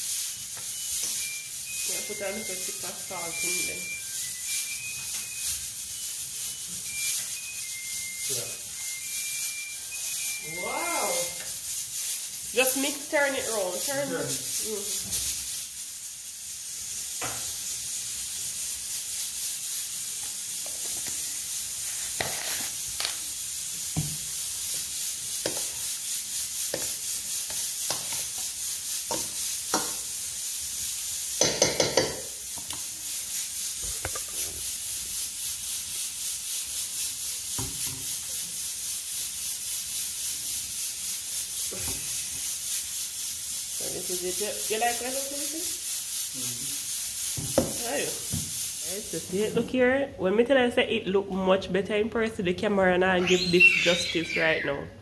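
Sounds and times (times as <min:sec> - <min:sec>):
utensil scraping metal bowl: 0:00.0 - 0:16.0, 0:17.2 - 0:23.2, 0:24.2 - 0:30.2, 0:31.1 - 0:35.4, 0:37.6 - 0:49.6, 0:53.2 - 0:54.9
steady high hiss: 0:00.0 - 0:50.9, 0:53.2 - 0:55.0.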